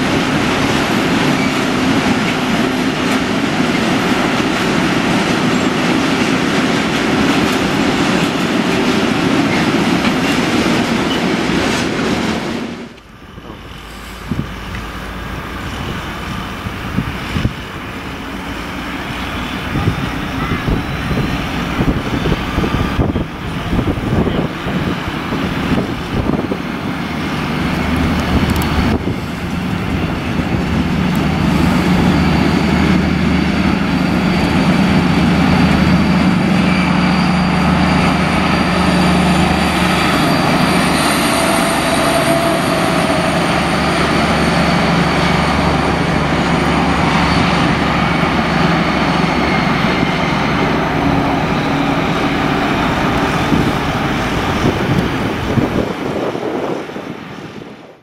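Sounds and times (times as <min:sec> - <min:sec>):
locomotive engine drone: 0:00.0 - 0:58.0.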